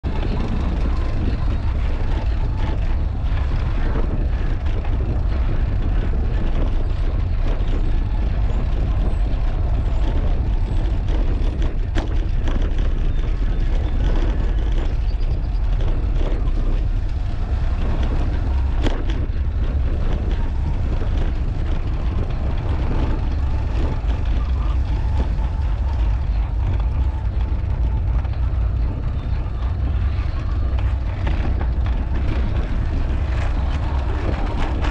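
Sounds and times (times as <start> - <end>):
tyre and street noise: 0.0 - 34.9
wind buffeting microphone: 0.0 - 34.9.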